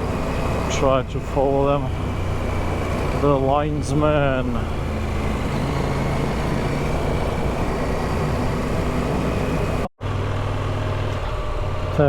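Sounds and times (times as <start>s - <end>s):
motorcycle engine running: 0.0s - 12.0s
tyre noise on dirt road: 0.0s - 12.0s.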